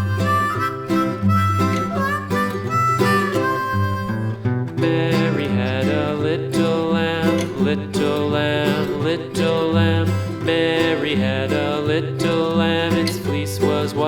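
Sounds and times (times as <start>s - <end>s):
acoustic guitar: 0.0s - 14.0s
harmonica: 0.0s - 14.0s.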